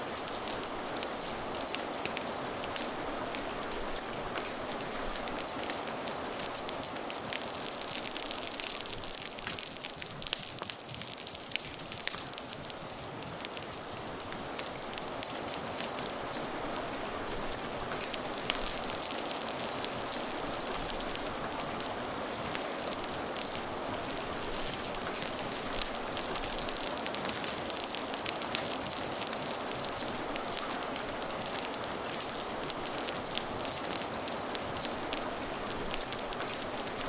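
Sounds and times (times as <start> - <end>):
fire crackling: 0.0 - 37.0
rain falling: 0.0 - 37.0.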